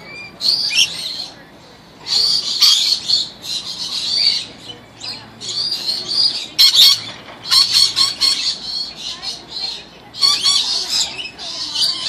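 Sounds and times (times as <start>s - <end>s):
lorikeets chattering: 0.0s - 12.0s.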